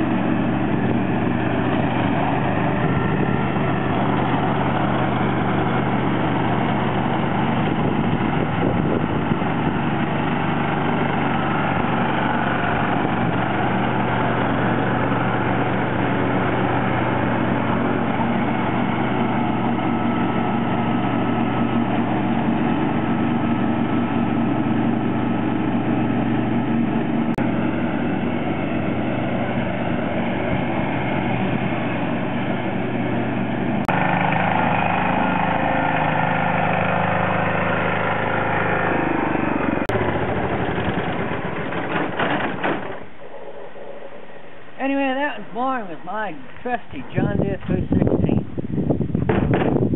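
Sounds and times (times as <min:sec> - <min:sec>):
mower deck cutting grass: 0:00.0 - 0:48.0, 0:48.7 - 0:49.9
lawn tractor engine running: 0:00.0 - 0:49.9.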